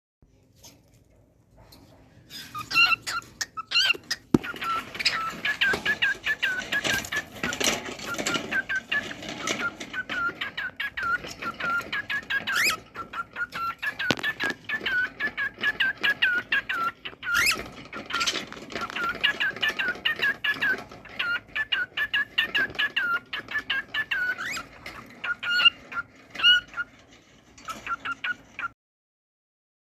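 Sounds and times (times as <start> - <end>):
cockatiel whistling chirps: 2.3 - 26.9, 27.7 - 28.7.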